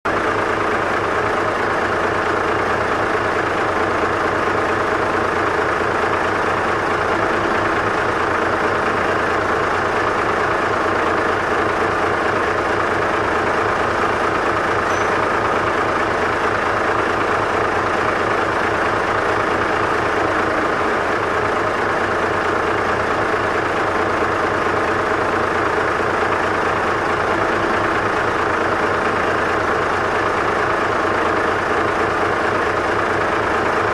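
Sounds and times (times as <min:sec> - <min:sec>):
truck diesel engine idling: 0:00.1 - 0:33.9.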